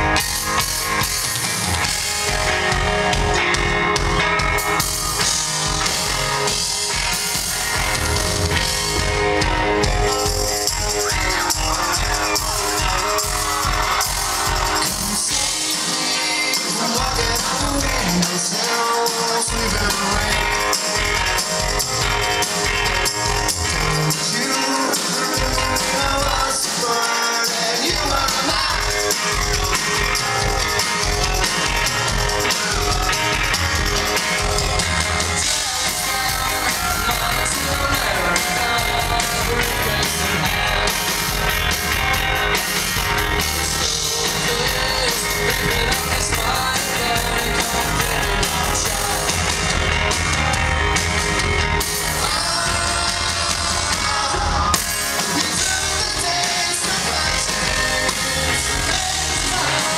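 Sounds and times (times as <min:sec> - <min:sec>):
bass guitar: 0:00.0 - 0:26.8, 0:27.8 - 0:59.9
drums: 0:00.0 - 0:59.9
electric guitar: 0:00.0 - 0:59.9
person singing: 0:01.8 - 0:21.5, 0:23.5 - 0:50.2, 0:51.9 - 0:59.9.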